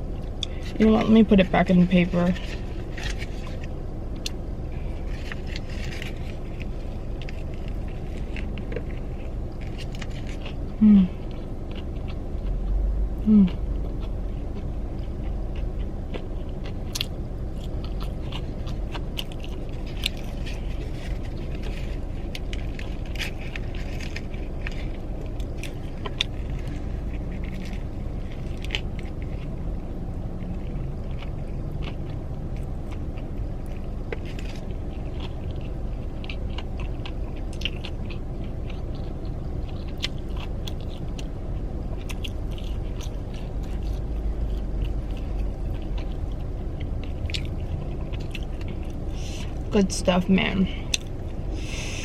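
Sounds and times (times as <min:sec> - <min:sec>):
chewing crispy food: 0:00.0 - 0:52.0
steady low hum: 0:00.0 - 0:52.0.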